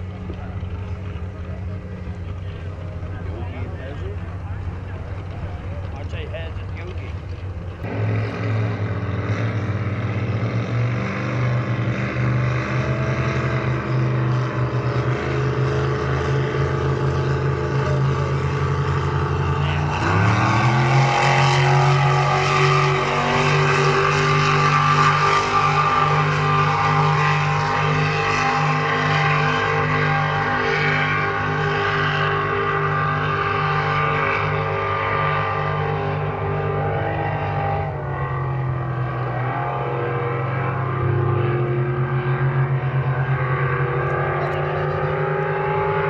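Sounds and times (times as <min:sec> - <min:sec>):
racing boat engines droning: 0:00.0 - 0:46.0.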